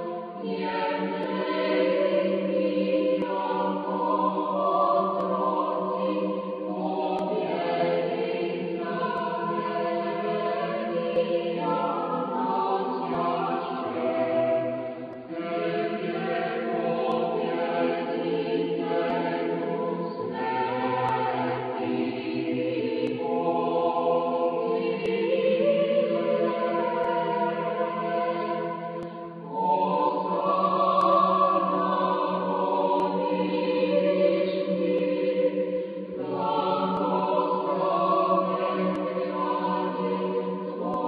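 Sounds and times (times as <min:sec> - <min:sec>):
choir singing a hymn: 0:00.0 - 0:41.0.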